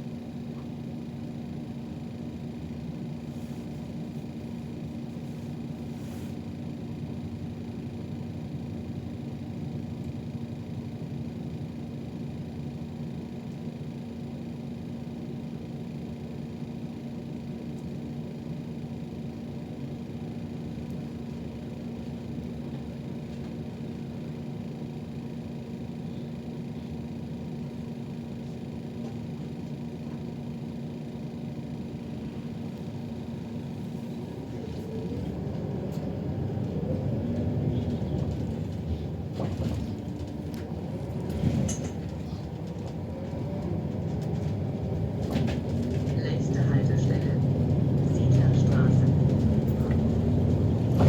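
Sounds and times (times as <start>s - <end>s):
bus engine rumble: 0.0s - 11.8s, 12.6s - 51.0s.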